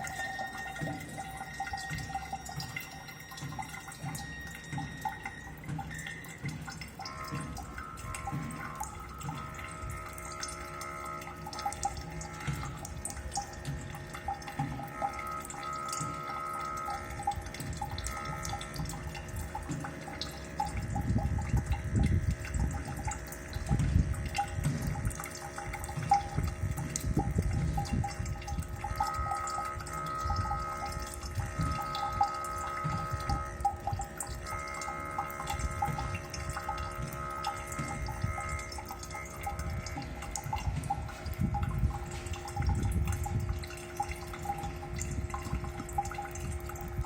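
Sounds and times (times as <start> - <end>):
faucet dripping: 0.0 - 47.0
thin high faucet whine: 0.0 - 47.0.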